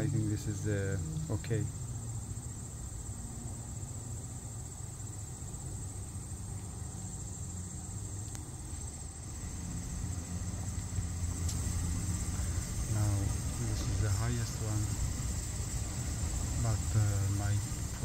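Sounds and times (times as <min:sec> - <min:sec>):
crickets trilling: 0:00.0 - 0:18.0
steady low rumble: 0:00.0 - 0:18.0.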